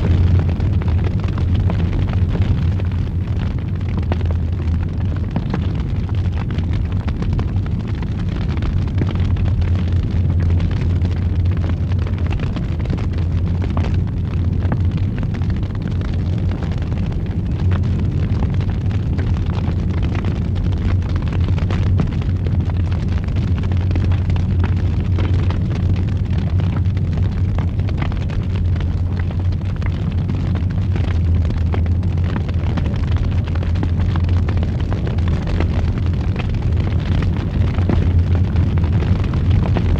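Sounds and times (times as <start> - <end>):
fire crackles and pops: 0.0 - 39.9
fire roaring: 0.0 - 39.9.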